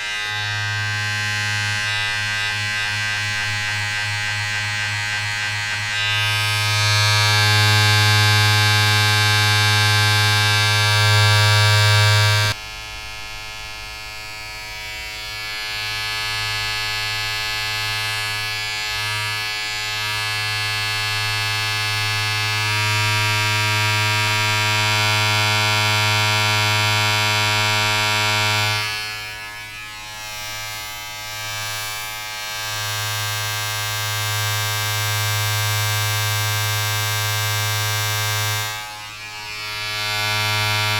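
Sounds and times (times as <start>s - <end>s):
electric motor buzzing: 0.0s - 12.6s, 14.2s - 40.9s.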